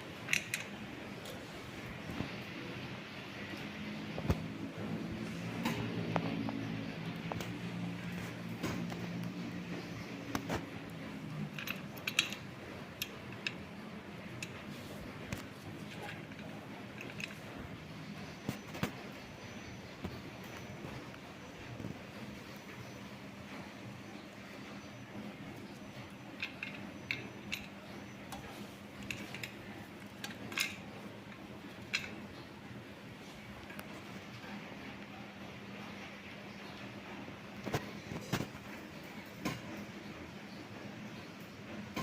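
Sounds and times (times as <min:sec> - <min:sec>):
ceiling fan air rush: 0:00.0 - 0:42.0.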